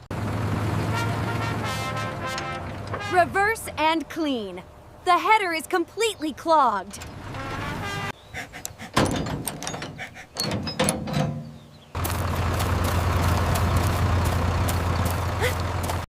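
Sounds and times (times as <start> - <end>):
engine humming: 0.0 - 16.0
harvester machinery clunking: 0.2 - 4.3, 6.8 - 16.0.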